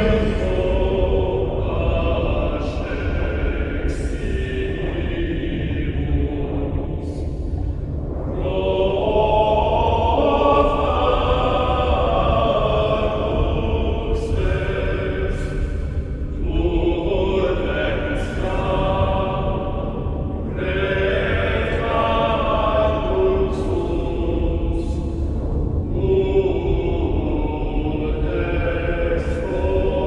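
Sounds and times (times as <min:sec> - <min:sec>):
choir-like chords: 0:00.0 - 0:30.0
steady low drone: 0:00.0 - 0:30.0.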